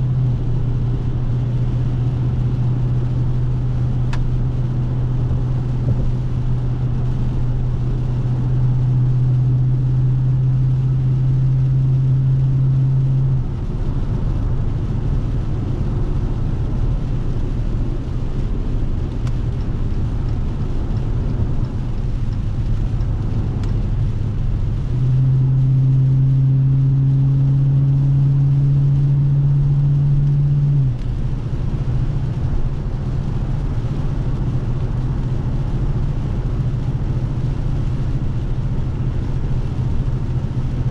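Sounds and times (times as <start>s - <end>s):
car exhaust drone: 0.0s - 40.9s.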